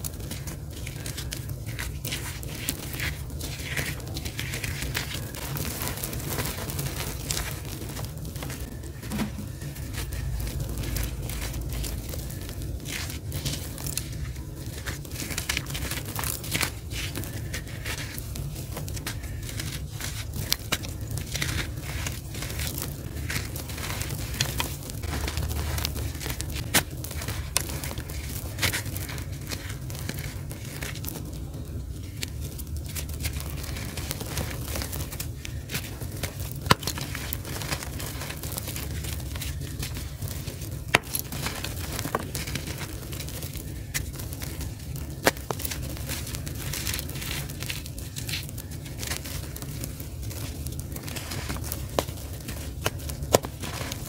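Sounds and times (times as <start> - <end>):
charcoal dust crunching: 0.0 - 54.0
steady low hum: 0.0 - 54.0.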